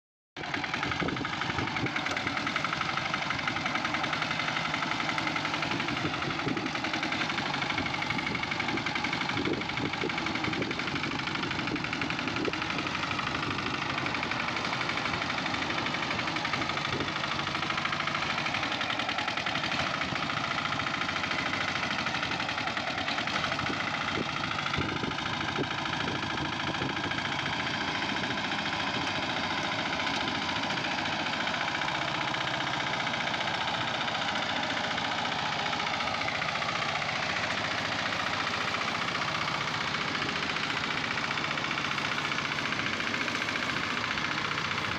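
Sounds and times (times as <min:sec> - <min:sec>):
tractor engine running: 0:00.4 - 0:44.9.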